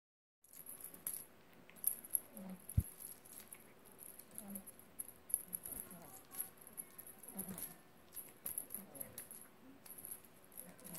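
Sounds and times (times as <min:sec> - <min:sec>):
cat toy jingling and rattling: 0:00.4 - 0:10.9.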